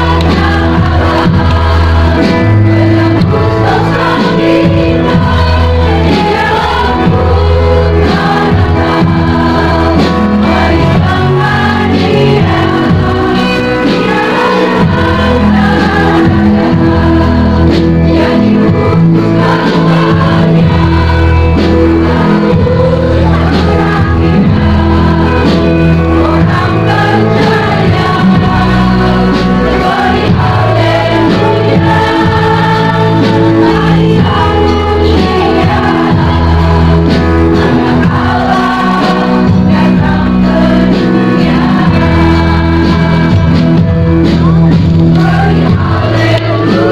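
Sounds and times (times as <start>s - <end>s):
loud music with singing: 0.0s - 46.9s.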